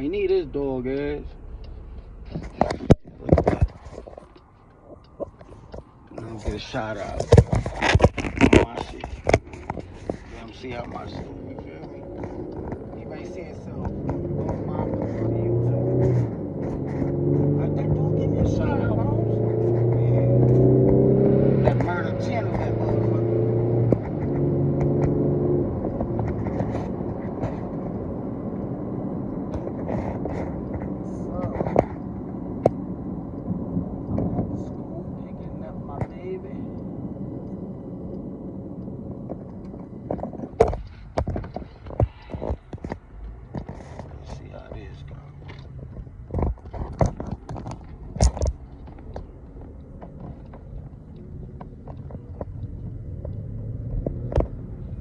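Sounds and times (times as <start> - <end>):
car engine rumble: 0.0 - 55.0
vehicle cabin hum: 0.0 - 55.0.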